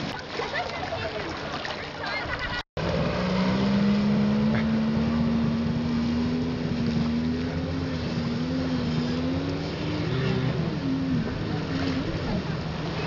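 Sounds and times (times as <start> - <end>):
jet ski engine running: 1.3 - 13.0.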